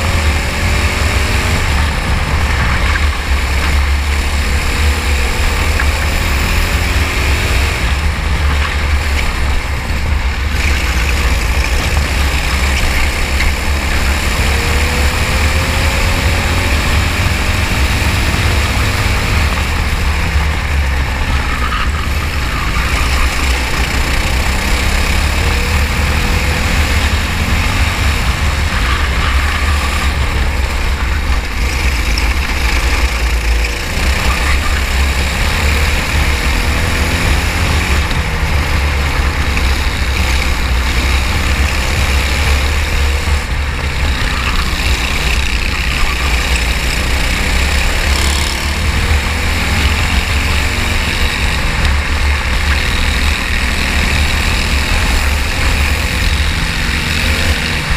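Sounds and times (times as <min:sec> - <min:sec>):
heavy low rumble: 0:00.0 - 0:57.9
racing kart engine: 0:00.0 - 0:57.9.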